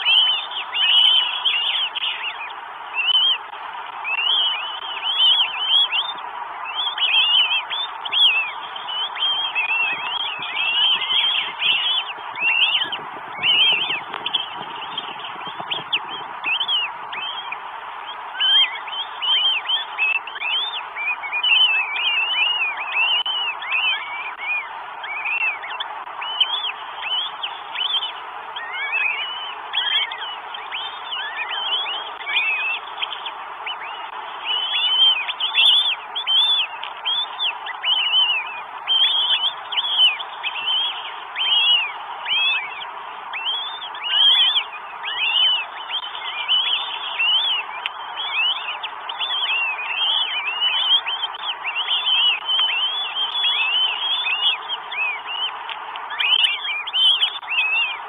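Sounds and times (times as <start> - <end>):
chicks begging chirps: 0.0 - 58.0
steady background hiss: 0.0 - 58.0.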